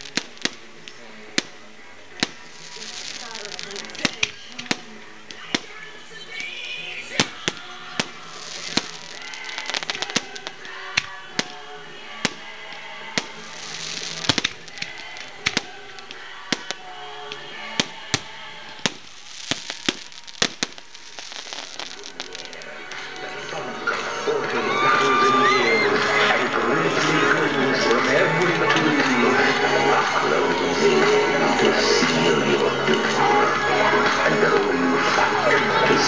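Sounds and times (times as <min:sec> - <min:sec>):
fireworks bangs: 0:00.0 - 0:36.0
hissing crackle: 0:00.0 - 0:36.0
music: 0:00.0 - 0:36.0.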